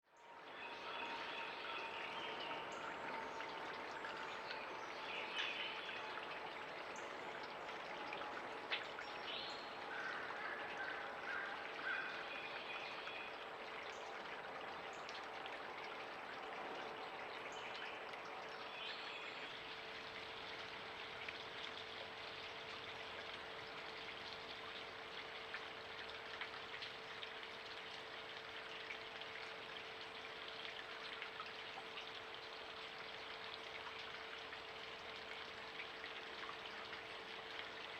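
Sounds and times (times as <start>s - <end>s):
creek water flowing: 0.0s - 37.9s
faint steady hum: 0.1s - 37.9s.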